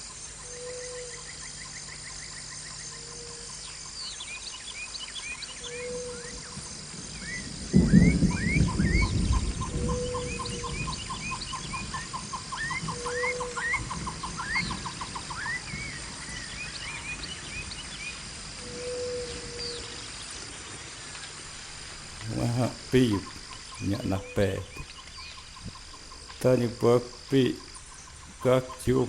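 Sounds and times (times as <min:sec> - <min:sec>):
birds chirping: 0:00.0 - 0:29.0
high insect hum: 0:00.0 - 0:29.0.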